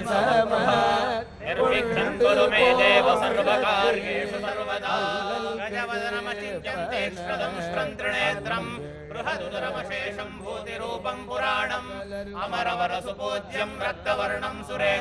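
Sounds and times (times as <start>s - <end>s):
several voices chanting together: 0.0s - 15.0s.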